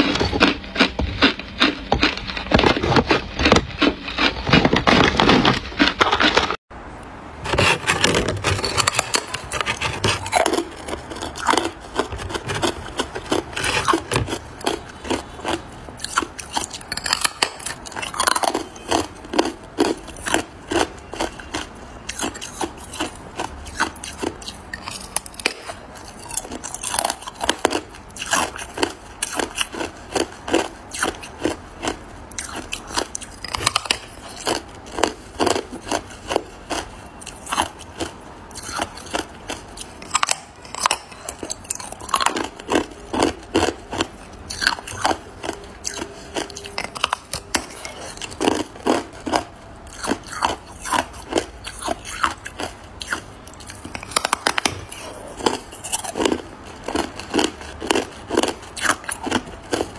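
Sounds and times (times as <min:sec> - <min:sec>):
teeth crunching ice: 0:00.0 - 0:06.6, 0:07.9 - 0:59.9.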